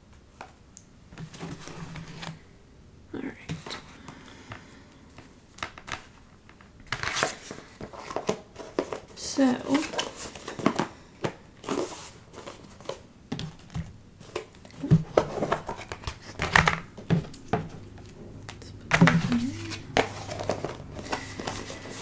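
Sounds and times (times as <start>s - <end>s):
crinkling and rustling: 0.1s - 2.4s, 3.5s - 22.0s.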